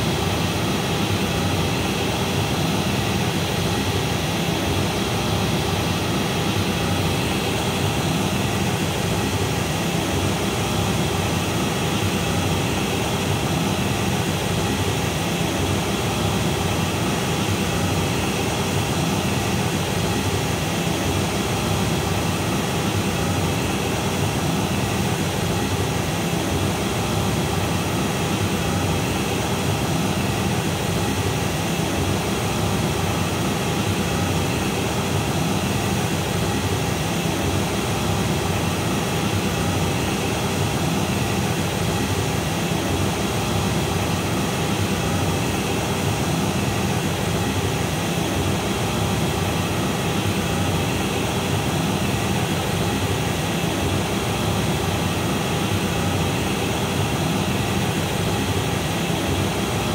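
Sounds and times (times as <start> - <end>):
steady broadband test noise: 0.0 - 59.9.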